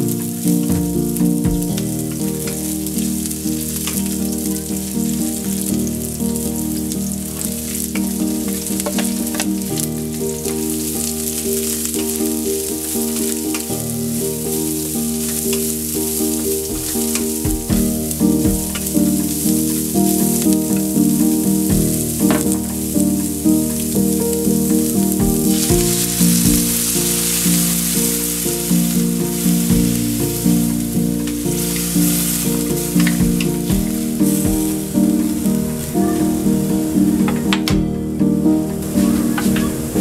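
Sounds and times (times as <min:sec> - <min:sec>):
vegetables sizzling in oil: 0:00.0 - 0:37.3.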